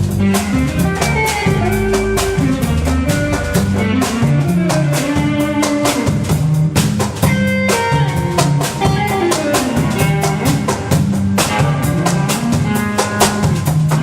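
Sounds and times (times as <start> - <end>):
bass line: 0.0 - 12.8
drum kit beat: 0.0 - 14.0
guitar: 0.0 - 14.0.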